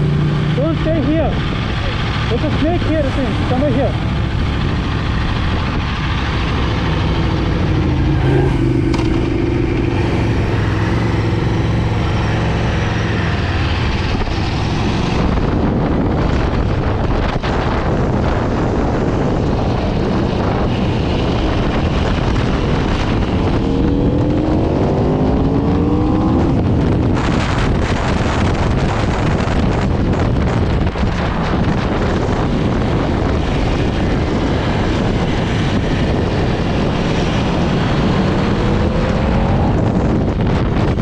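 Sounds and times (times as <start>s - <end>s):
motorcycle engine revving: 0.0s - 41.0s
wind noise on microphone: 0.0s - 41.0s.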